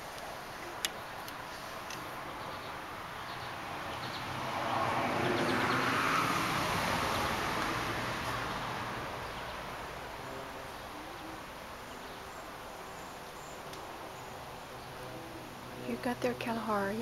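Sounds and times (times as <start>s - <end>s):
car passing by: 1.4s - 17.0s.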